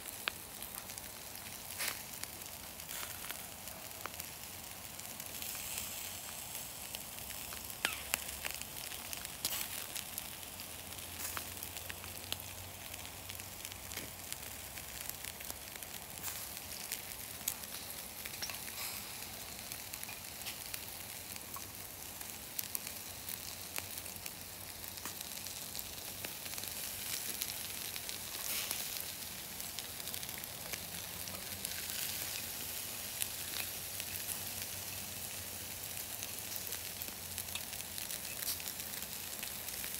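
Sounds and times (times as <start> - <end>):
coals popping and crackling: 0.0 - 39.9
meat sizzling on a grill: 0.0 - 39.9.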